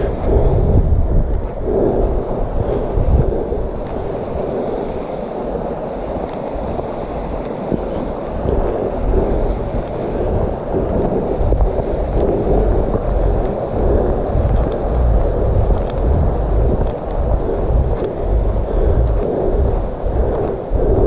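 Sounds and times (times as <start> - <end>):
steady rushing noise: 0.0 - 21.0
wind buffeting microphone: 0.0 - 21.0.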